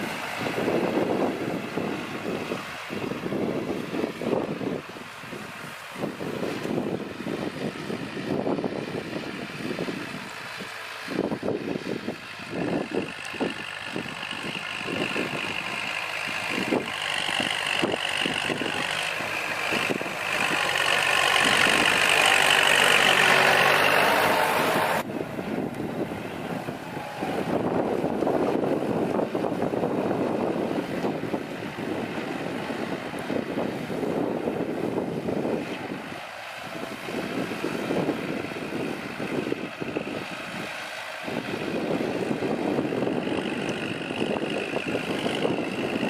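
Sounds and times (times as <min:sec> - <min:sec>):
rotary tiller churning soil: 0:00.0 - 0:46.0
tractor diesel engine under load: 0:00.0 - 0:46.0.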